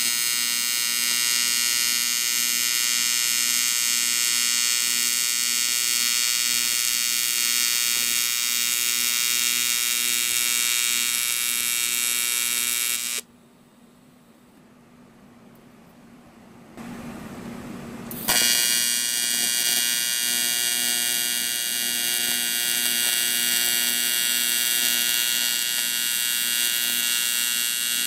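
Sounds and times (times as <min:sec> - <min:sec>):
welding arc buzzing: 0:00.0 - 0:13.3, 0:18.1 - 0:28.0.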